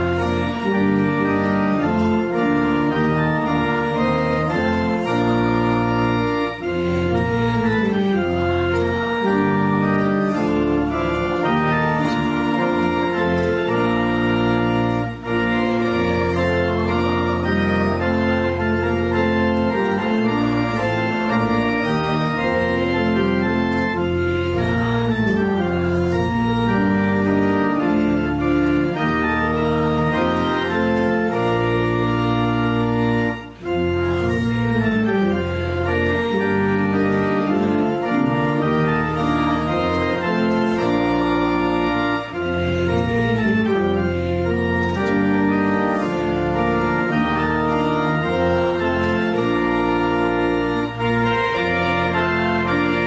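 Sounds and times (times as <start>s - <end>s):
organ playing a hymn: 0.0s - 53.0s.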